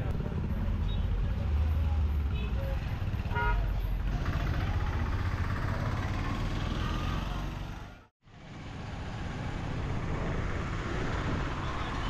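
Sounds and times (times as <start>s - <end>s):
road rumble: 0.0s - 12.0s
vehicle engines: 0.0s - 12.0s.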